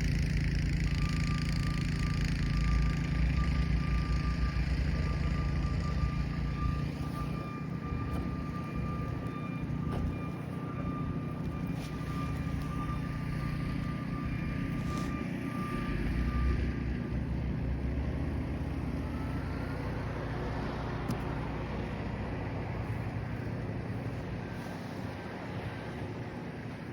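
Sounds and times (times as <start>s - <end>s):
snow blower engine running: 0.0s - 26.9s.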